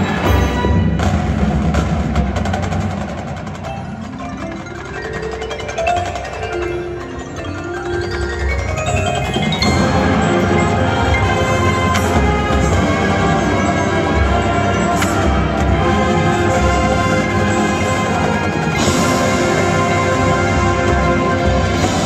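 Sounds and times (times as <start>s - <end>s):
marimba and bells: 0.0s - 1.6s, 3.1s - 22.0s
marching band playing: 0.0s - 22.0s.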